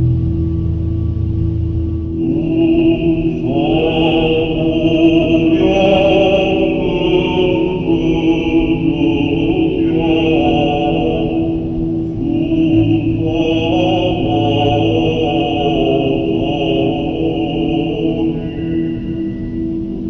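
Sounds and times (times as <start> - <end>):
held drone note: 0.0 - 20.0
person chanting melismatic line: 2.2 - 20.0.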